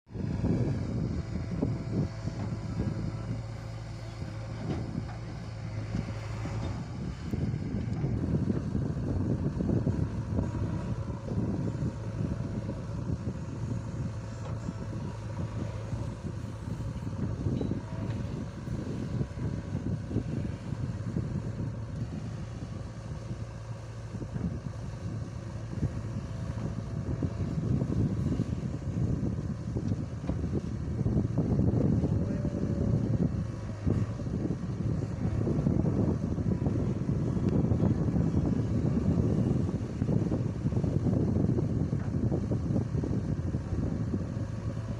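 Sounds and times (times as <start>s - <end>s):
tractor diesel engine running: 0.1s - 44.9s
wind buffeting microphone: 0.1s - 44.9s.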